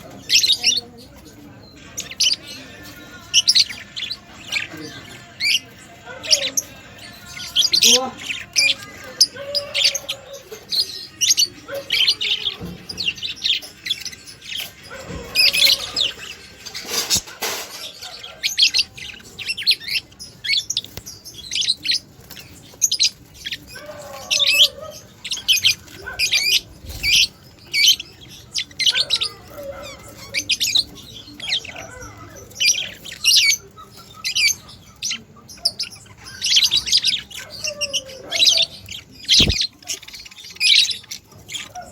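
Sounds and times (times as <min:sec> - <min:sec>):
budgerigars chirping: 0:00.0 - 0:41.9.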